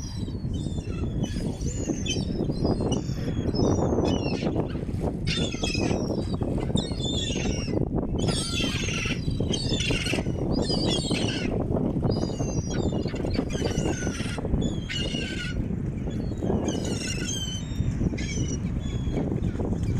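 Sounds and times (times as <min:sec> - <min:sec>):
seagulls calling: 0:00.0 - 0:19.9.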